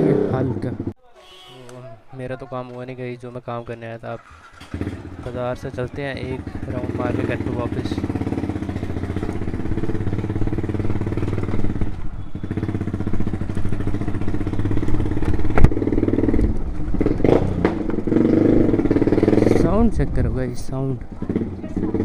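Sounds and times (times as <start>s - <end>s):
motorcycle engine running: 4.2s - 22.0s.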